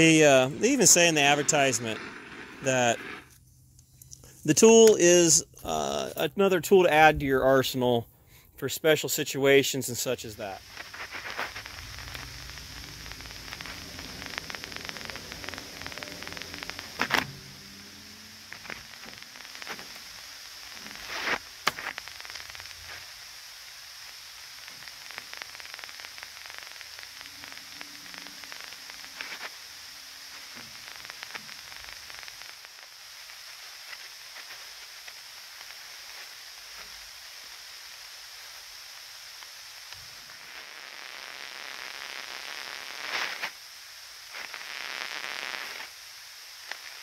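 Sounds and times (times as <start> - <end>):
fine crackling: 0.0 - 3.4, 10.2 - 43.6, 44.2 - 46.0
leak detector hissing static: 0.0 - 47.0.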